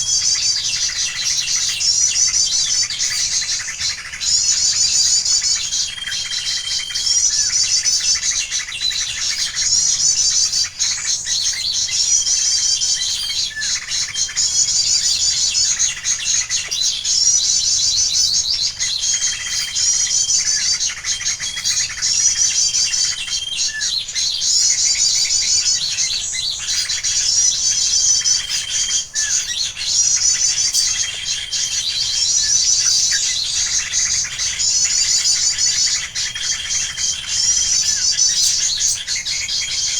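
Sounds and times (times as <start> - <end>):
rapid high bird twittering: 0.0 - 39.9.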